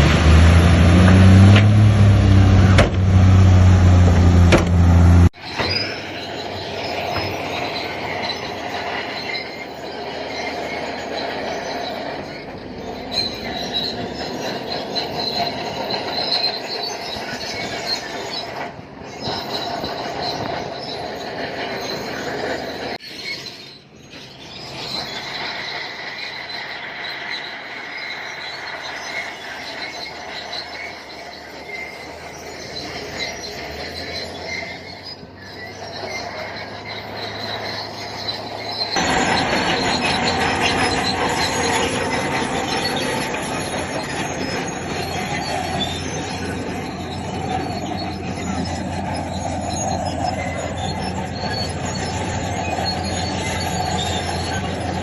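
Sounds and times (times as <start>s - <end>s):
bulldozer engine: 0.0s - 55.0s
deep heavy engine: 0.0s - 55.0s
steel tracks squealing: 0.0s - 55.0s.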